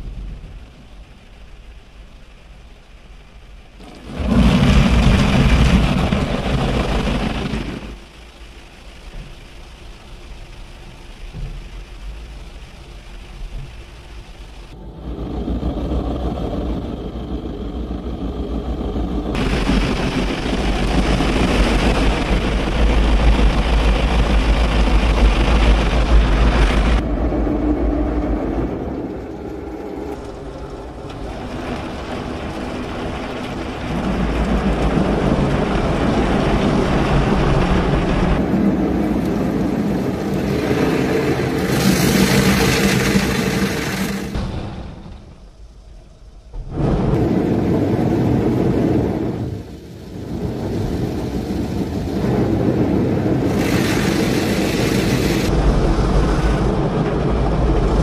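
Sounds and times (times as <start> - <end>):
car wash water spray and machinery: 0.0 - 58.0.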